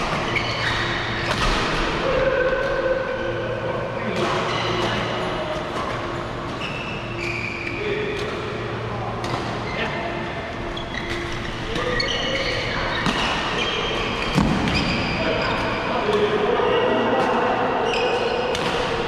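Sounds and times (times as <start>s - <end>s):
court shoes squeaking: 0.0s - 16.4s, 17.2s - 19.0s.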